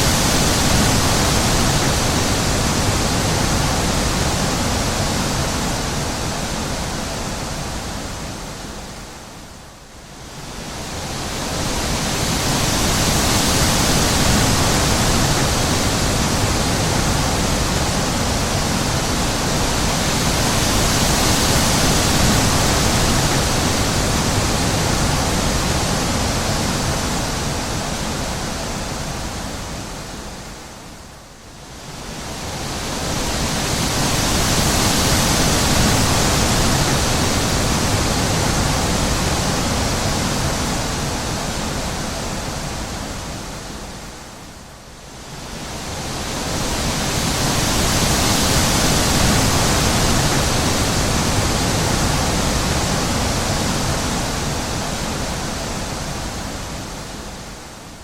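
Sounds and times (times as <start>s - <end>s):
wind blowing in gusts: 0.0s - 58.0s.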